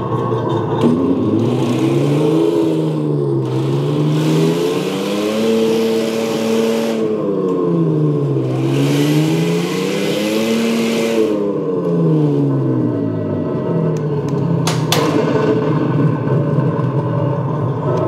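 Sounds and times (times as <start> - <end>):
simulated tank engine revving: 0.0 - 18.0.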